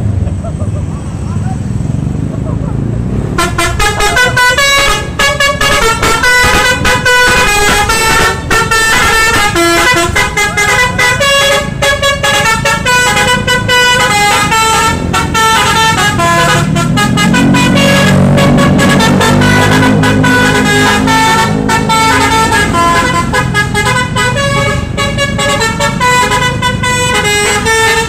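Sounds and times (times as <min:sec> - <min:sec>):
multi-tone musical bus horn: 0:03.3 - 0:28.0.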